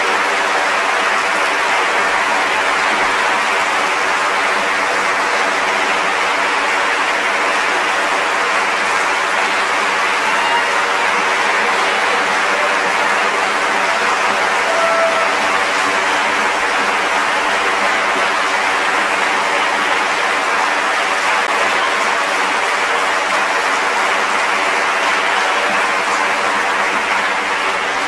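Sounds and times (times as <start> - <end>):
audience applauding: 0.0 - 28.0.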